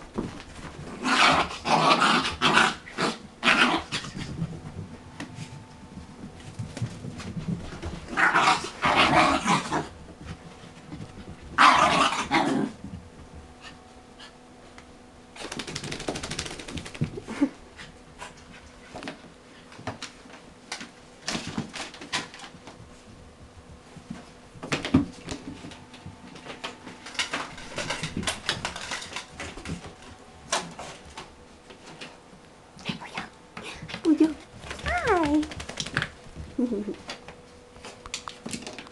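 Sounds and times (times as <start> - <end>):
dogs scuffling: 0.0 - 32.4, 33.1 - 38.9.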